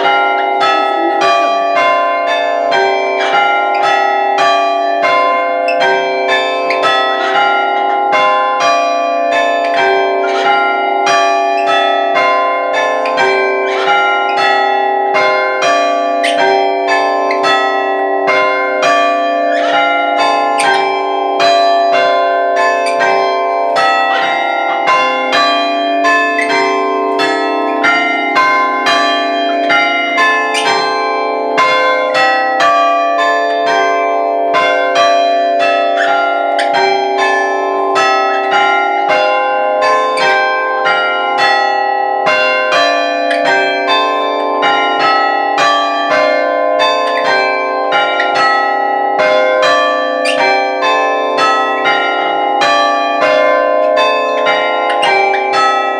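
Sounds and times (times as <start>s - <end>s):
church bells chiming: 0.0s - 55.9s.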